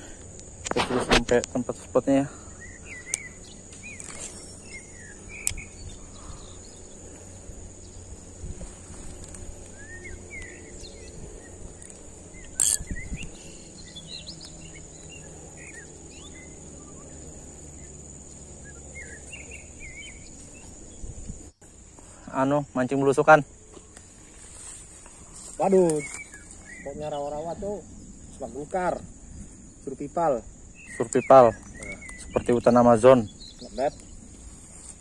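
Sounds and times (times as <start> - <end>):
birds chirping: 0.0 - 35.0
insects high-pitched drone: 0.0 - 35.0.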